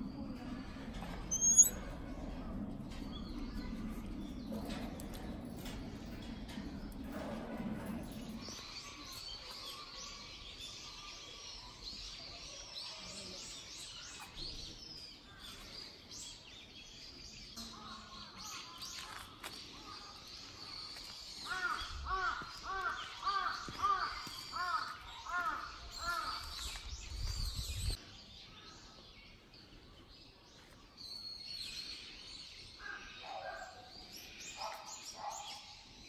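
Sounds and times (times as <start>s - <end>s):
birds chirping and twittering: 0.0s - 36.0s.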